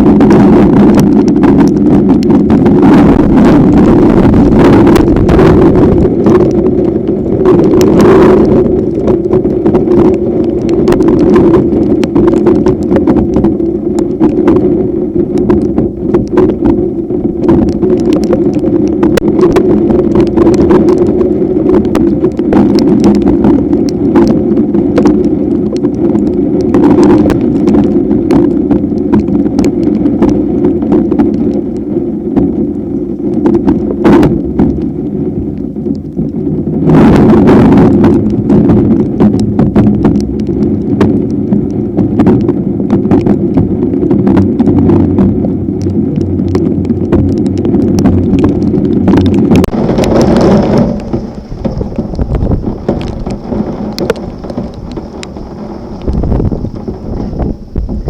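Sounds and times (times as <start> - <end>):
storm wind buffeting microphone: 0.0 - 58.0
sharp knocks and ticks: 0.2 - 58.0.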